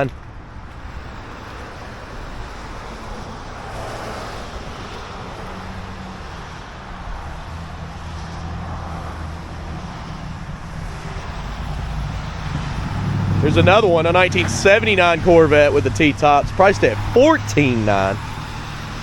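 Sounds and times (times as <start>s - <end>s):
low engine hum: 0.0s - 19.0s
road traffic: 0.0s - 19.0s.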